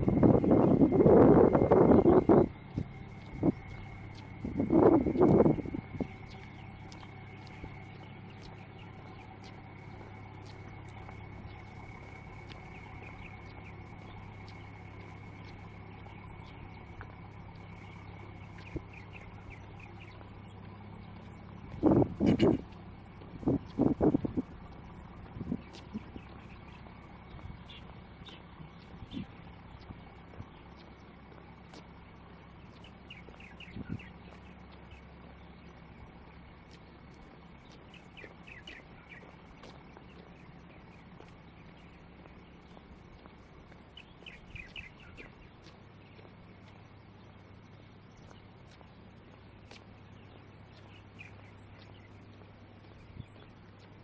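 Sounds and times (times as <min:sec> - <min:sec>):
constant high thin tone: 0:00.0 - 0:54.0
faint chirps and clicks: 0:00.0 - 0:54.0
low background rumble: 0:00.0 - 0:54.0
steady low hum: 0:00.0 - 0:54.0.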